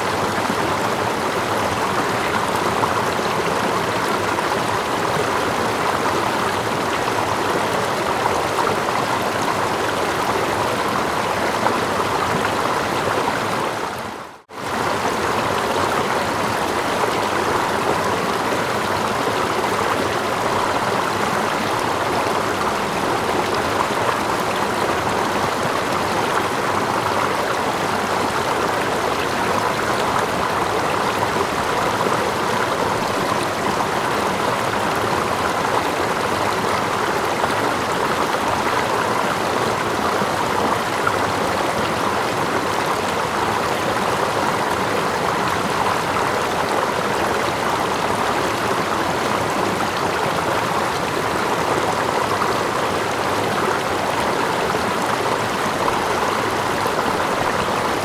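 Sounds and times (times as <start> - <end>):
stream and waterfall rushing: 0.0 - 58.0.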